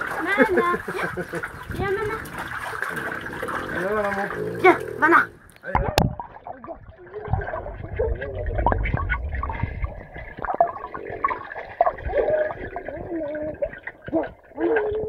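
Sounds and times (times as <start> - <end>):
underwater sloshing and gurgling: 0.0 - 15.0.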